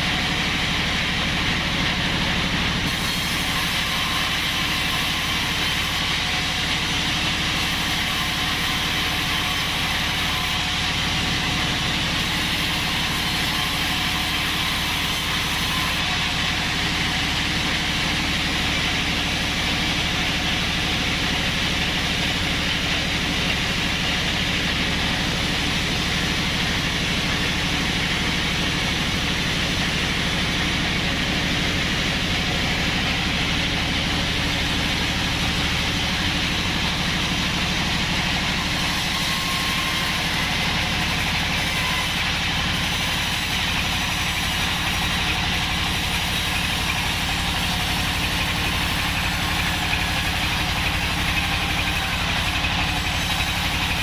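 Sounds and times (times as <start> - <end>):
sawmill machine hum: 0.0 - 54.0.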